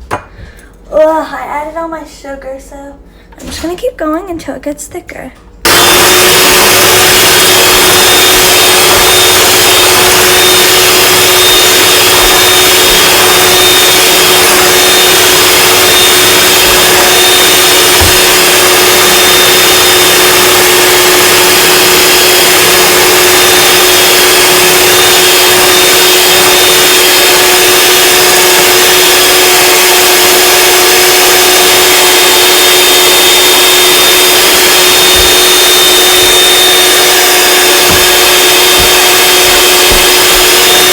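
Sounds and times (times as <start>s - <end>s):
electric mixer running: 5.6s - 40.9s.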